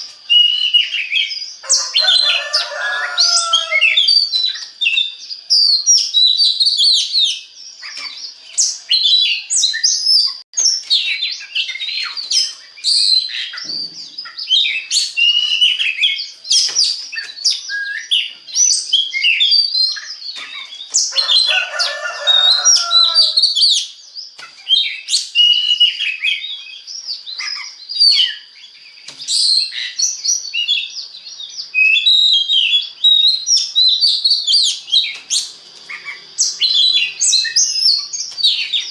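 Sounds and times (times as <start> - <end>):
songbird whistles and trills: 0.0 - 38.9.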